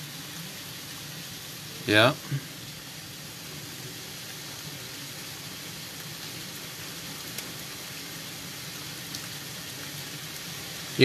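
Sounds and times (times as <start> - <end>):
heavy rain hiss: 0.0 - 11.0.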